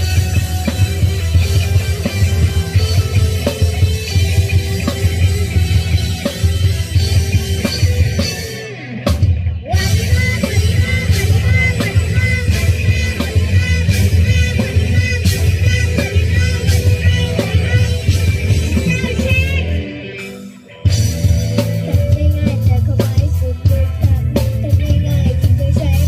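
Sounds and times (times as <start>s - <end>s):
bass guitar: 0.0s - 26.0s
drum kit: 0.0s - 26.0s
electric guitar: 0.0s - 26.0s
person singing: 0.0s - 26.0s.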